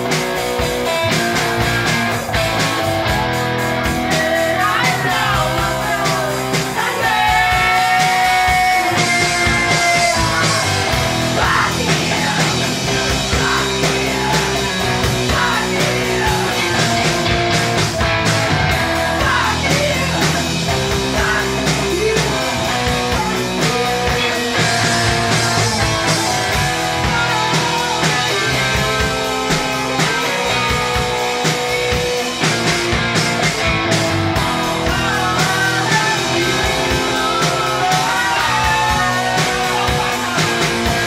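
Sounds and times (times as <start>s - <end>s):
electric guitar: 0.0s - 41.0s
punk rock band playing live: 0.0s - 41.0s.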